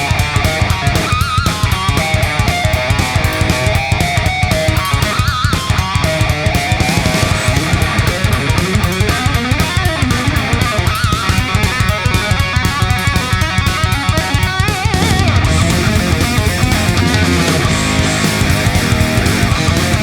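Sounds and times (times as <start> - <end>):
electric guitar: 0.0 - 20.0
fast drum beat: 0.0 - 20.0
rock music: 0.0 - 20.0.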